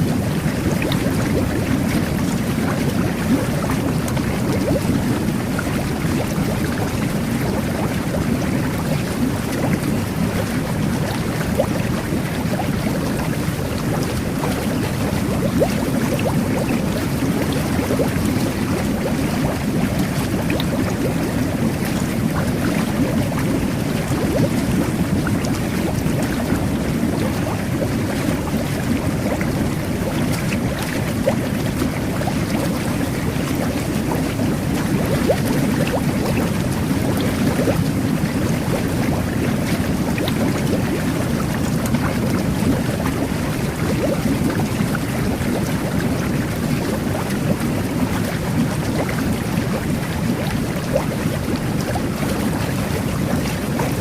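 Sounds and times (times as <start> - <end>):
bath water jets bubbling: 0.0 - 54.0.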